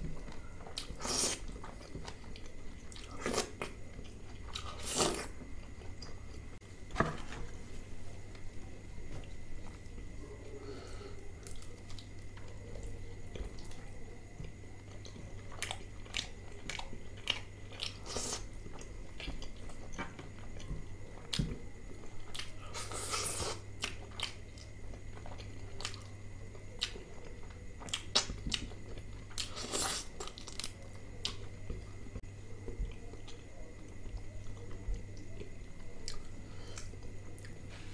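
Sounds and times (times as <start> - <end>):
chewing: 0.1 - 6.4, 11.4 - 37.6.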